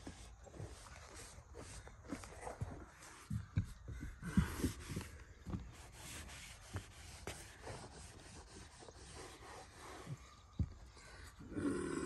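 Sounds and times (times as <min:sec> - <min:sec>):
rag scrubbing rubber roofing: 0:00.0 - 0:10.9.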